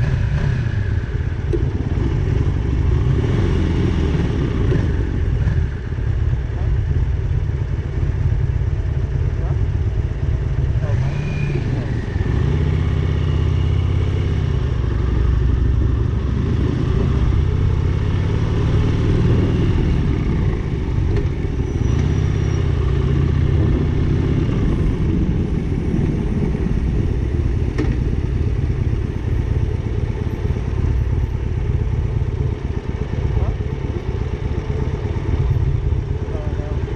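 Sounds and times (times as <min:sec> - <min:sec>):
motorcycle engine revving: 0:00.0 - 0:08.4, 0:09.0 - 0:36.9.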